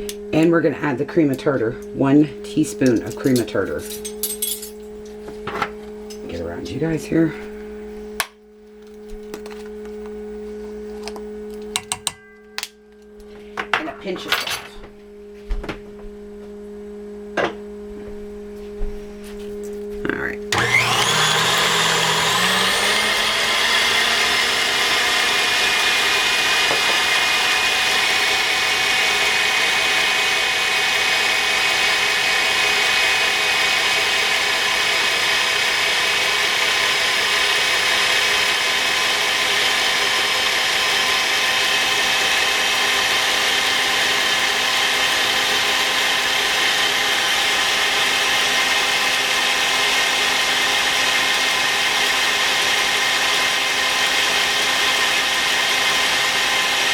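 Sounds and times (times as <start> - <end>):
electric mixer motor whine: 0.0 - 4.2, 4.8 - 56.9.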